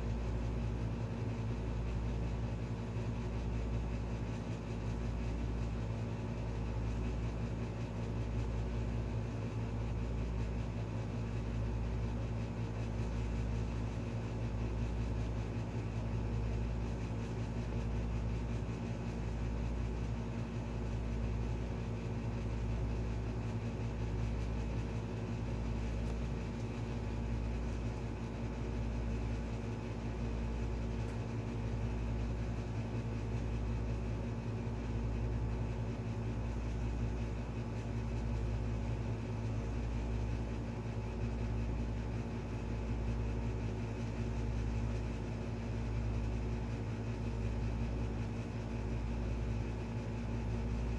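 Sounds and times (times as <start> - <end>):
low machine hum with throb: 0.0 - 50.9.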